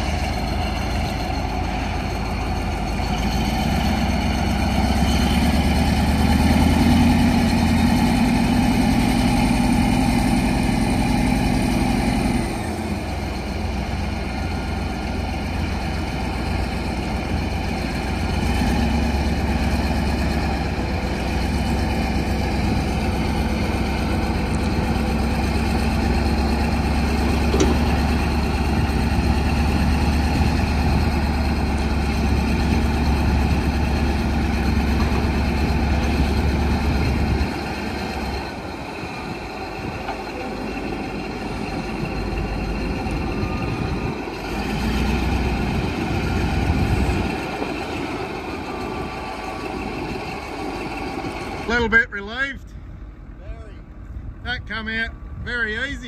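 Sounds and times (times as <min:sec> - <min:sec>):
heavy diesel engines under load: 0:00.0 - 0:56.0.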